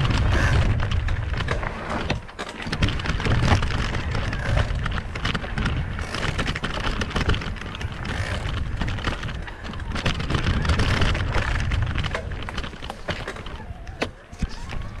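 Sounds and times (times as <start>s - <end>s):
bike tyres rolling on rough ground: 0.0s - 15.0s
wind rumble on microphone: 0.0s - 15.0s.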